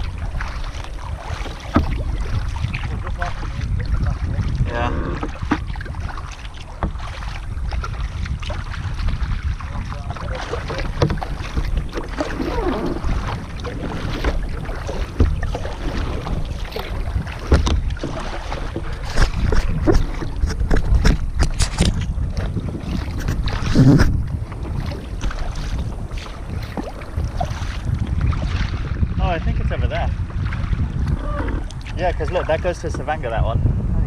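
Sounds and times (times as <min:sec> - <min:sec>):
paddle splashes and knocks: 0:00.0 - 0:33.4
wind on microphone: 0:00.0 - 0:34.0.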